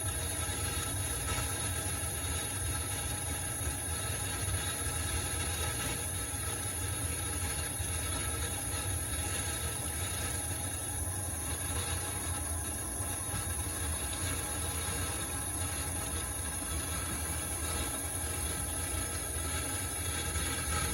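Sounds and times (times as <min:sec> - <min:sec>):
dishwasher motor hum: 0:00.0 - 0:20.9.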